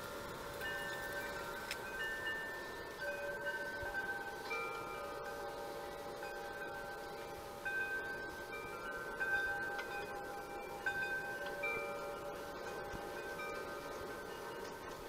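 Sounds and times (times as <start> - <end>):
chimes ringing: 0.0 - 15.0.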